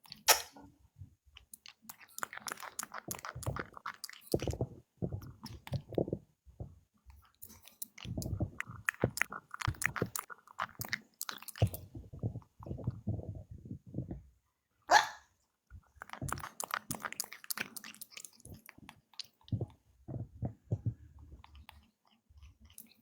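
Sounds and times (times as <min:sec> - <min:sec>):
chewing and crunching: 0:01.4 - 0:14.2, 0:15.9 - 0:23.0.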